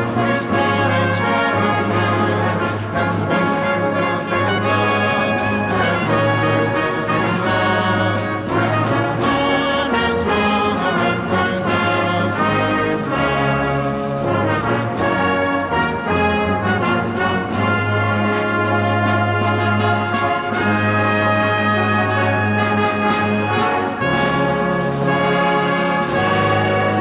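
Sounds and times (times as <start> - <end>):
brass band playing carol: 0.0 - 27.0
percussion strokes: 0.0 - 27.0.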